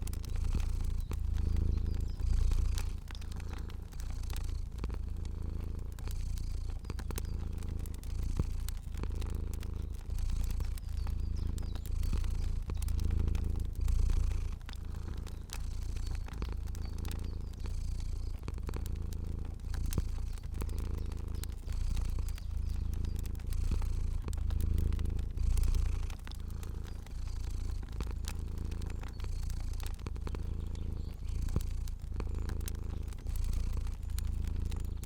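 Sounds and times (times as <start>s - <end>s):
cat purring: 0.0s - 35.0s
fire crackling: 0.0s - 35.0s.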